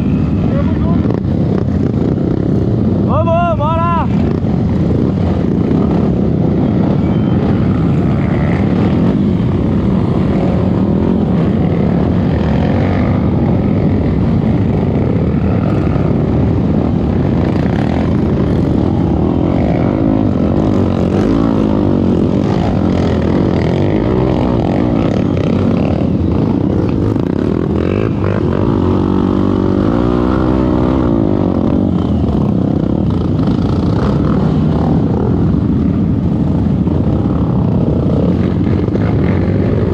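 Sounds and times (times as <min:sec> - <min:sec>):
motorcycle engine revving: 0:04.1 - 0:39.9.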